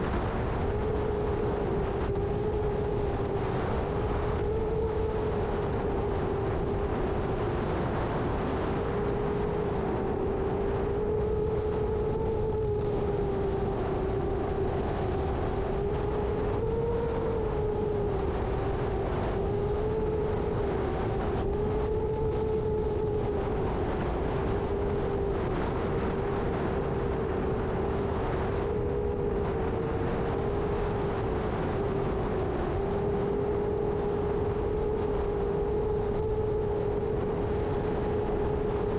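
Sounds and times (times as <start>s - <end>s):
drone motors humming: 0.0s - 38.9s
gusty wind rumble: 0.0s - 38.9s.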